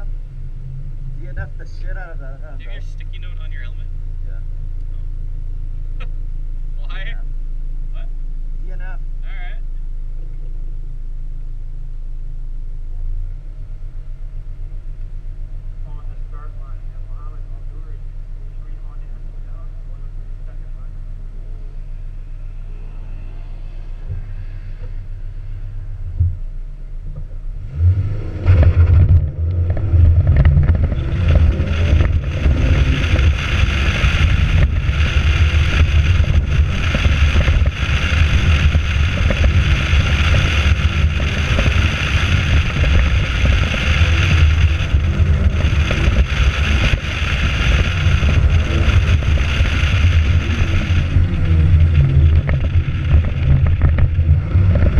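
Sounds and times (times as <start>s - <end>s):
sports car engine: 0.0s - 54.9s
wind and tyre hiss: 0.0s - 54.9s.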